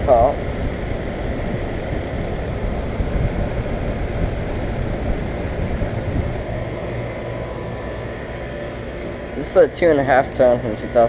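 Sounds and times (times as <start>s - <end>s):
air conditioner fan rumbling: 0.0s - 11.0s.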